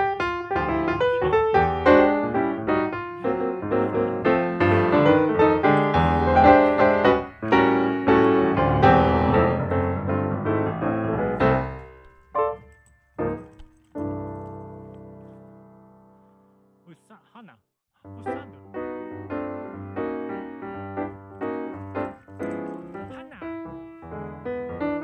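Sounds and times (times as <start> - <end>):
flowing piano music: 0.0 - 16.6, 18.1 - 25.0.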